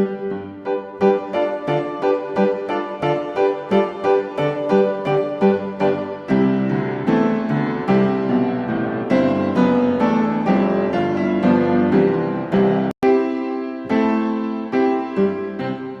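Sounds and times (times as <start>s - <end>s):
instrumental piano music: 0.0s - 16.0s.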